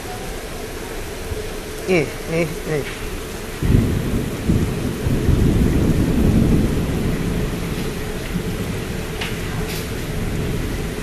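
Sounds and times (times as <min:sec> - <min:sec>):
heavy rain pouring: 0:00.0 - 0:11.0
loud low rumbling: 0:01.0 - 0:11.0.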